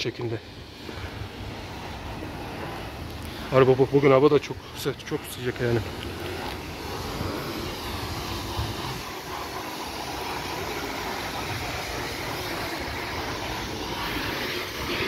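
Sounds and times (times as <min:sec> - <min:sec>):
passing road traffic: 0:00.0 - 0:15.0.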